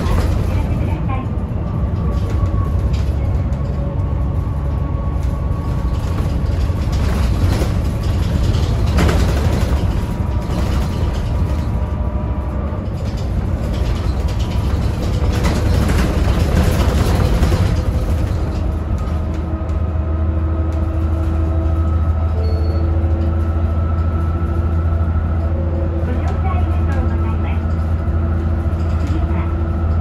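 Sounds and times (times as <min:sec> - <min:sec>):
bus engine drone with whine: 0:00.0 - 0:30.0.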